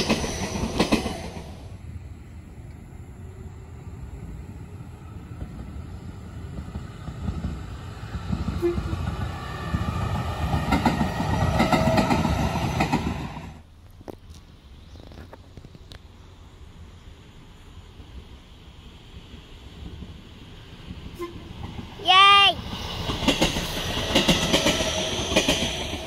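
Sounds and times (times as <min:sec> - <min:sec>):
electric train running past: 0:00.0 - 0:26.0.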